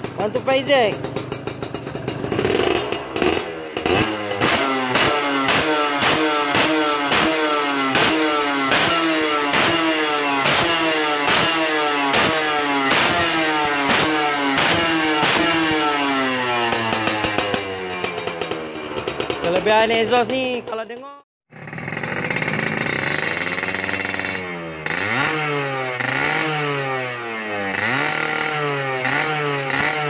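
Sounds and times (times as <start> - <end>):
two-stroke motorcycle engine revving: 0.0 - 30.0.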